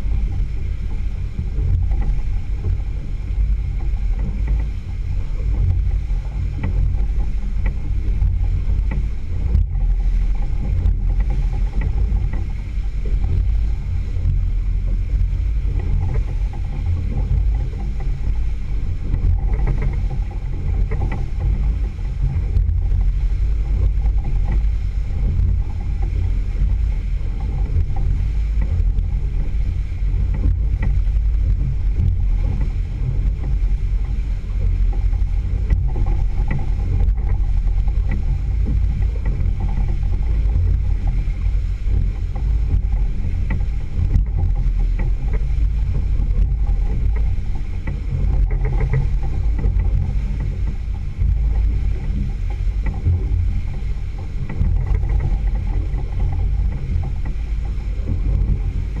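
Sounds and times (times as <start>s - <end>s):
churning boat wake: 0.0s - 59.0s
outboard motor rumbling: 0.0s - 59.0s.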